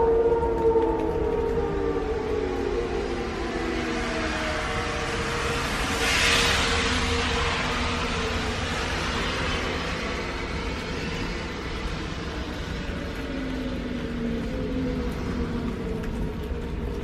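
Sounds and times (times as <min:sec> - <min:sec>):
distant warning siren: 0:00.0 - 0:17.0.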